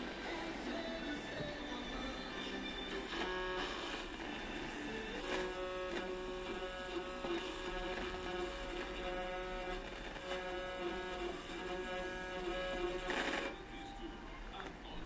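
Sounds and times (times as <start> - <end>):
radio hiss: 0.0 - 15.0
radio tuning tones: 0.0 - 15.0.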